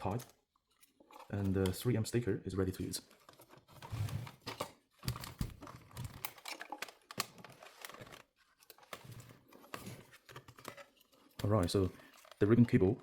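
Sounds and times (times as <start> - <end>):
handling small plastic parts: 0.0 - 13.0.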